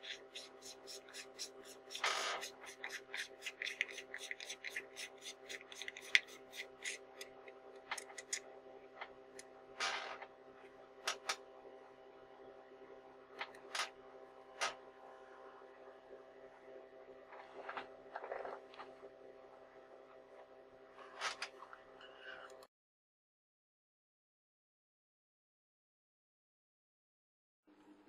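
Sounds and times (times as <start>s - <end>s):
steady hum: 0.0s - 22.7s.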